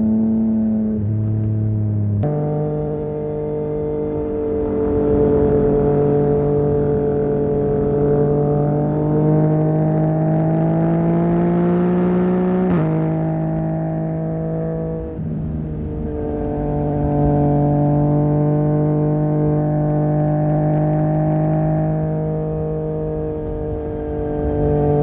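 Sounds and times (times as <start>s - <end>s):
motorcycle engine revving under load: 0.0s - 25.0s.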